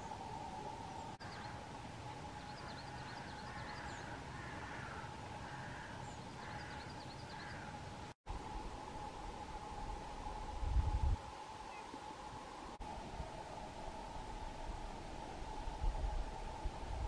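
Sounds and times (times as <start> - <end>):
faint steady hum: 0.0 - 17.0
songbirds chirping: 0.0 - 17.0.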